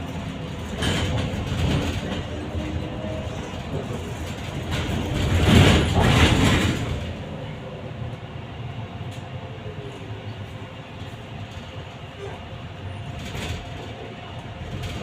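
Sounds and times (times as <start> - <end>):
trolleybus cabin rumble: 0.0 - 15.0.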